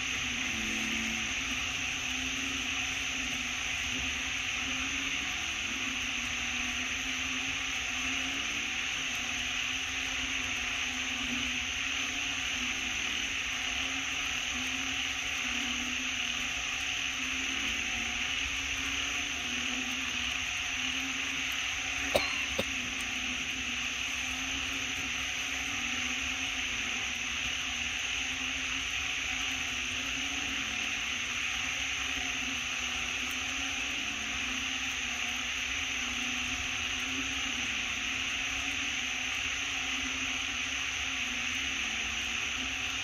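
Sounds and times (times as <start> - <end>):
steady hissing background noise: 0.0 - 43.0.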